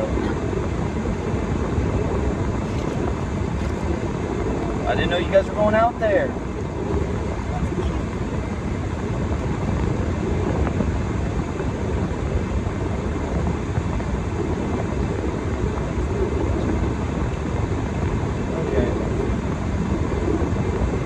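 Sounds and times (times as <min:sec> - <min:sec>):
steady low rumbling: 0:00.0 - 0:21.0.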